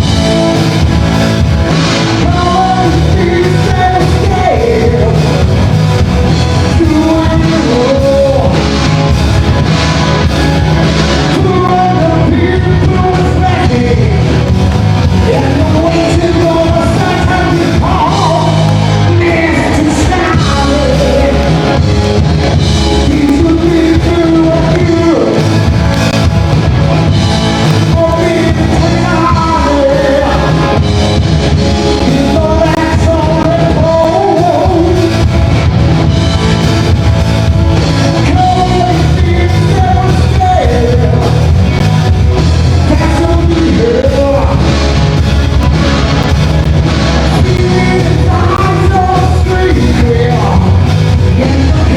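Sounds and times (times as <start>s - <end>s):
lead singer singing: 0.0s - 51.9s
rock band playing live: 0.0s - 51.9s.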